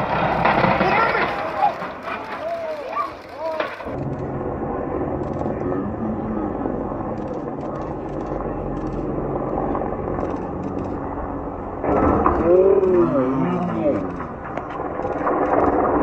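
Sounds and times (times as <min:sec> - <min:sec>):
people's voices: 0:00.0 - 0:04.0, 0:05.3 - 0:11.1, 0:11.8 - 0:14.8
helicopter running: 0:00.0 - 0:16.0.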